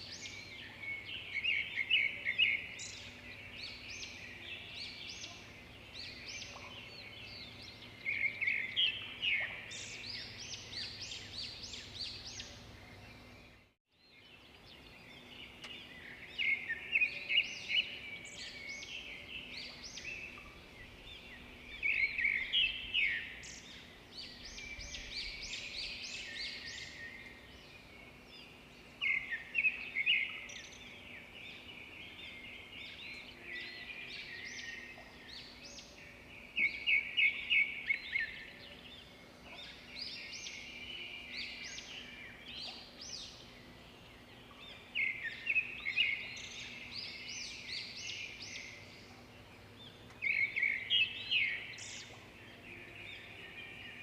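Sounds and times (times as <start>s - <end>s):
songbird singing chirped notes: 0.0s - 54.0s.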